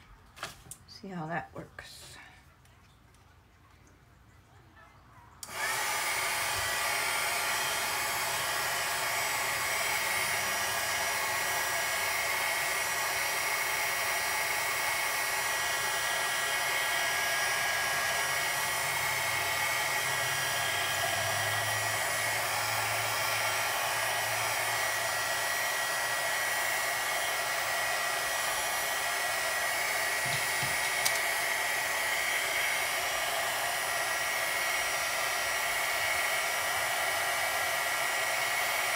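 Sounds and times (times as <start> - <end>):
heat gun blowing with whine: 5.4 - 38.9.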